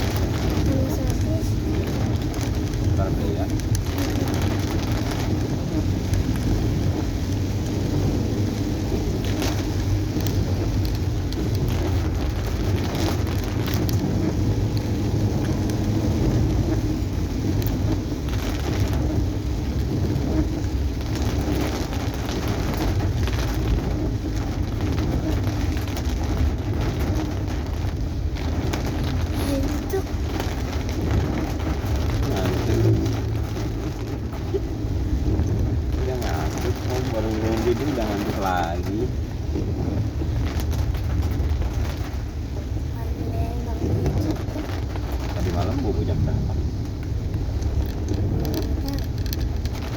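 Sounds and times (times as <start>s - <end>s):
engine and tyres rumbling: 0.0s - 49.9s
heavy rain on a car: 0.0s - 49.9s.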